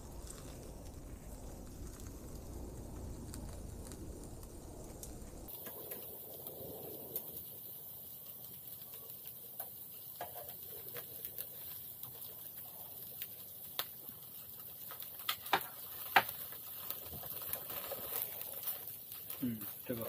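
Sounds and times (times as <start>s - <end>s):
crackles: 0.0s - 20.0s
meat sizzling on charcoal grill: 0.0s - 20.0s.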